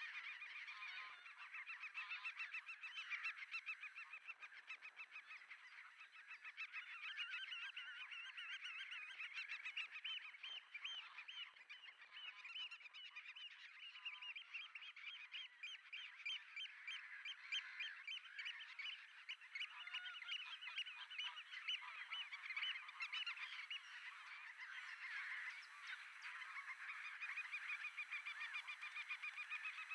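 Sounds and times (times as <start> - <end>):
chorus of wading birds calling: 0.0 - 29.9.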